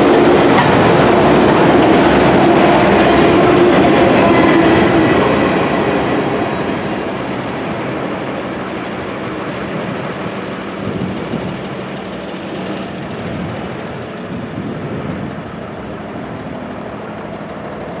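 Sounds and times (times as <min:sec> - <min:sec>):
freight train rumbling on rails: 0:00.0 - 0:18.0.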